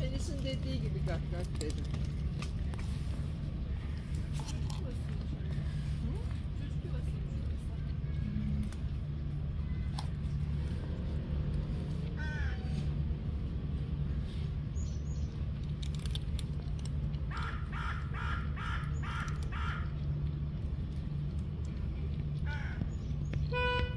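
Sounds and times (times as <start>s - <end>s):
low background rumble: 0.0s - 23.9s.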